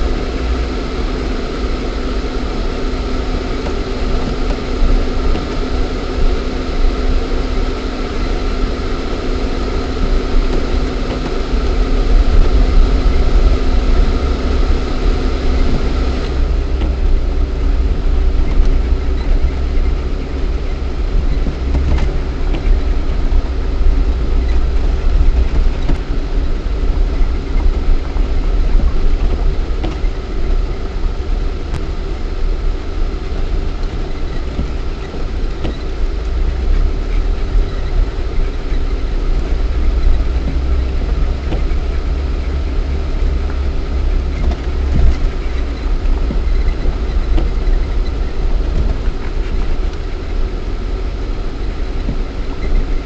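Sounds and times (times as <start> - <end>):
car engine rumble inside cabin: 0.0 - 53.0.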